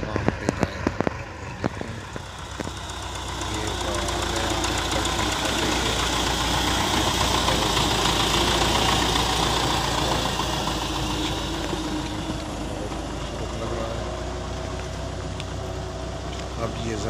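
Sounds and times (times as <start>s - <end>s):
tractor engine passing by: 0.0s - 17.0s.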